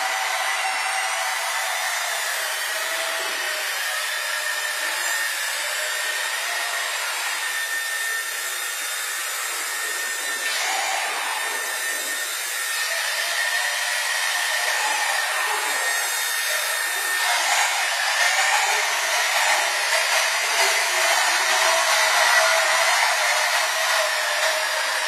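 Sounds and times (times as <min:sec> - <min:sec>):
rc helicopter motor whine: 0:00.0 - 0:25.0.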